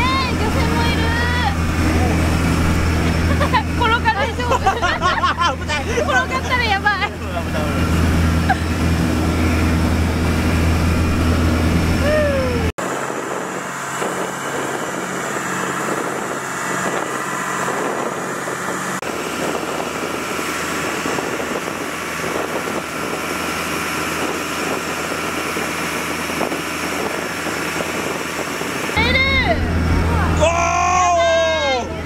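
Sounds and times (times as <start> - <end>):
boat engine droning: 0.0 - 32.0
water noise: 0.0 - 32.0
wind: 0.0 - 32.0.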